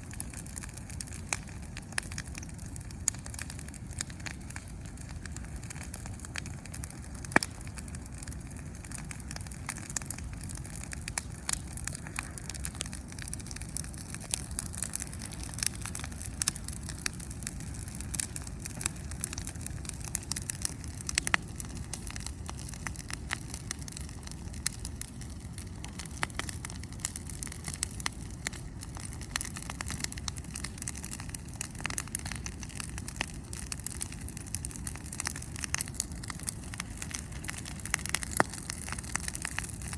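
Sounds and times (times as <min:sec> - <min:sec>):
bonfire crackling: 0:00.0 - 0:39.9
sharp pops of fire: 0:00.0 - 0:39.9.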